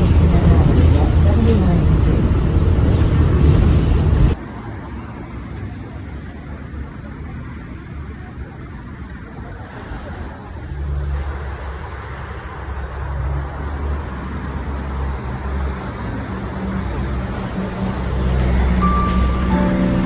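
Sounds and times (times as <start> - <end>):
vehicle rumble: 0.0 - 8.2, 8.8 - 20.0
traffic hum: 0.0 - 20.0.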